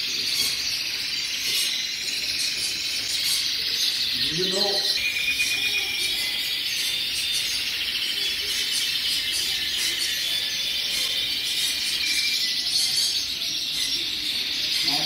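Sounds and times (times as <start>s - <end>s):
canaries singing in chorus: 0.0s - 15.0s.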